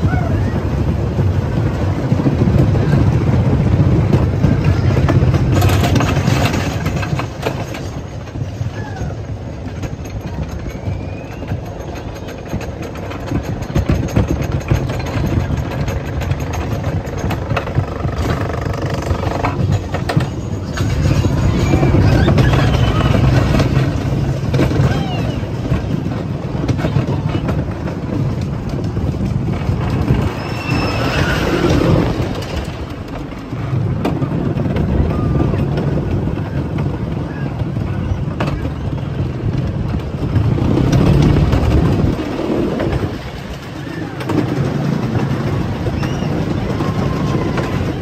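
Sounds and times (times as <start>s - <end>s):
roller coaster rumbling on track: 0.0s - 48.0s.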